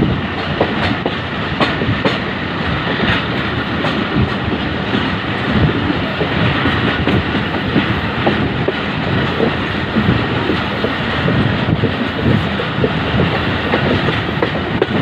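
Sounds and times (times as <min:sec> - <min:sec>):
clicks and knocks of train: 0:00.0 - 0:15.0
train wheels rumbling on rails: 0:00.0 - 0:15.0.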